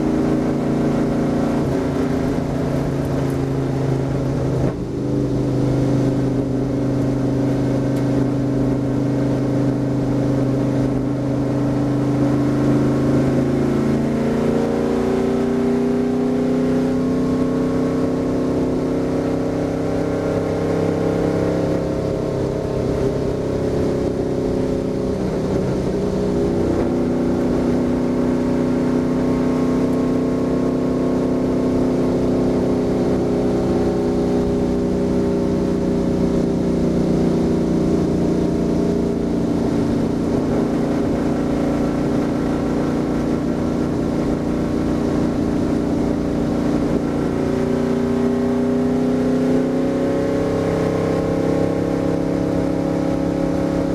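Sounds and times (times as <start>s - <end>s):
race car engine droning: 0.0s - 53.9s.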